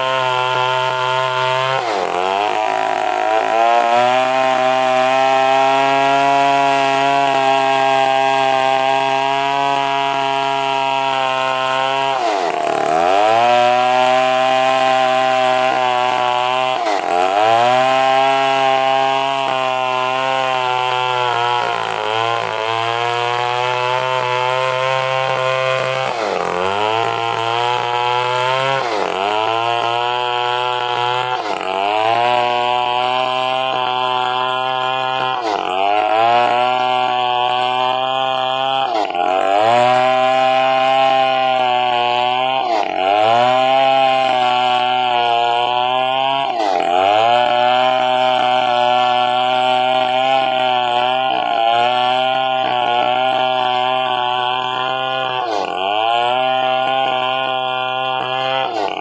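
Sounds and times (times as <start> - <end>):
chainsaw sawing log: 0.0 - 59.0.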